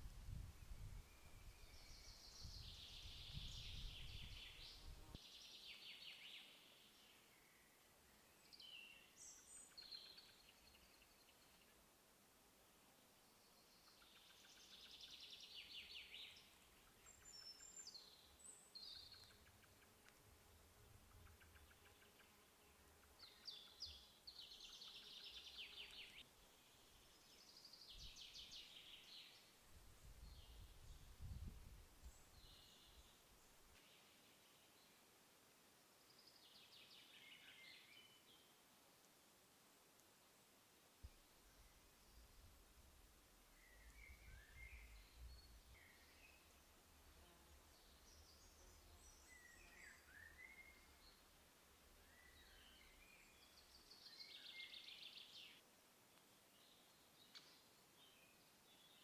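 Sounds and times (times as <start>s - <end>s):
songbird singing: 0.0s - 11.8s, 13.4s - 35.0s, 35.9s - 38.6s, 41.0s - 59.0s
faint forest ambience: 0.0s - 59.0s.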